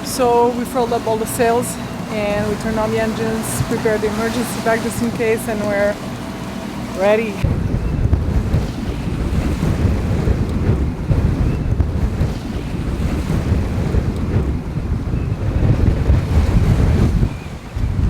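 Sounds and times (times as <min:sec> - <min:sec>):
waves rushing: 0:00.0 - 0:18.0
wind buffeting microphone: 0:00.0 - 0:18.0.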